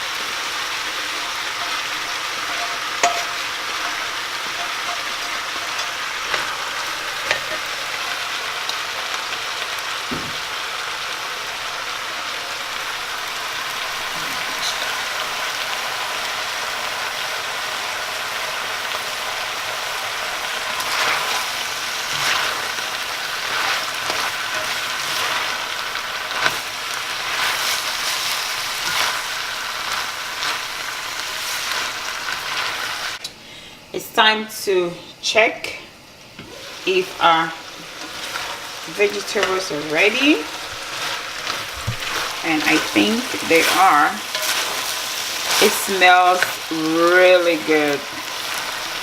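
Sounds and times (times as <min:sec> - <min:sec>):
food sizzling in a pan: 0:00.0 - 0:49.0.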